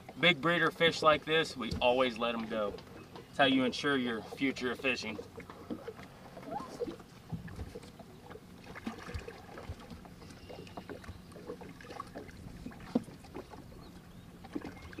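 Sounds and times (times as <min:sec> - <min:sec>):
light water splashing: 0:00.0 - 0:15.0.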